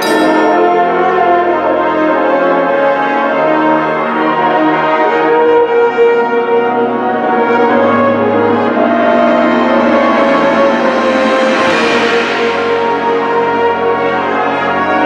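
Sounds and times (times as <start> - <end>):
wind band playing chords: 0.0 - 15.0.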